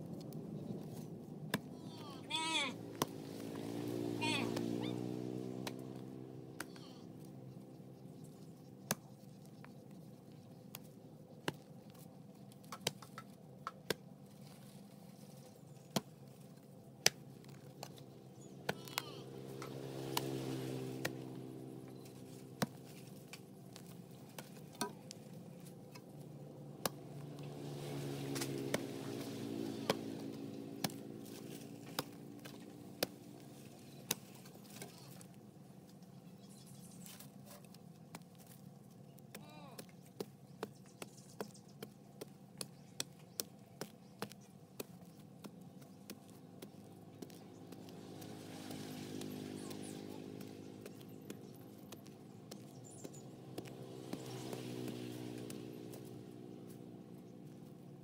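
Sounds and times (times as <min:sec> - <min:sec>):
hoe chopping into dry soil: 0:02.9 - 0:06.0, 0:10.7 - 0:35.3, 0:37.0 - 0:57.7.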